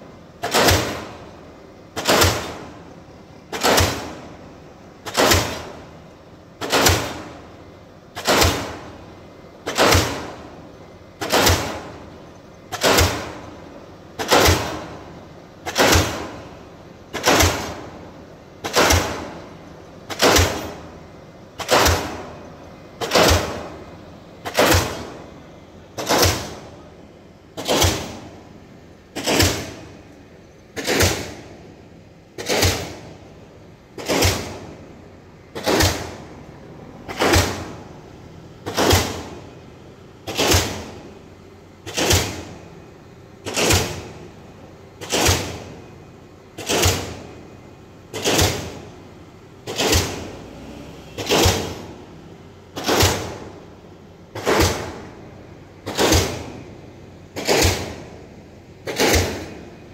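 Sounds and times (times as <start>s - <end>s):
pile-driving hammer blows: 0.0s - 59.9s.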